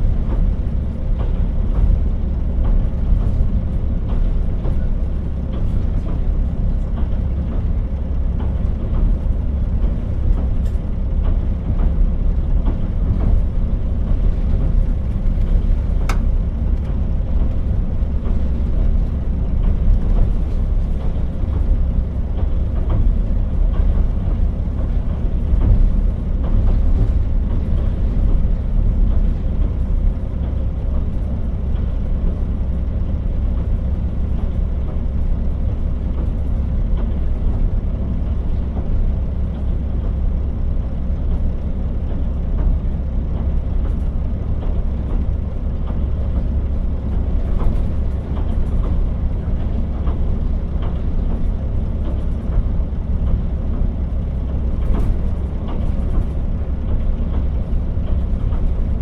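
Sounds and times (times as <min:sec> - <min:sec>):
railcar rumbling on rails: 0:00.0 - 0:59.0.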